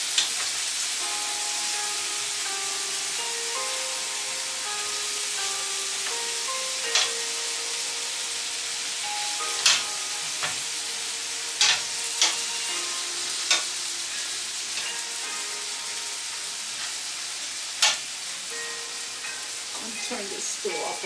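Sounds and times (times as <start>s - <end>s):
meat sizzling in a grill pan: 0.0s - 21.0s.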